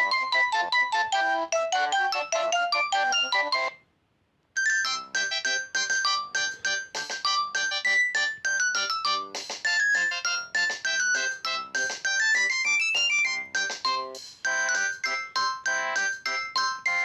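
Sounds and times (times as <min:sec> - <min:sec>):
synthesized ringtone melody: 0:00.0 - 0:03.8, 0:04.6 - 0:17.0.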